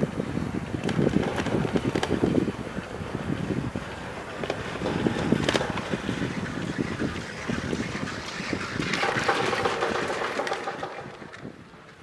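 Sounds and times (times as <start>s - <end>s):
chairlift rumbling clatter: 0.0s - 12.0s.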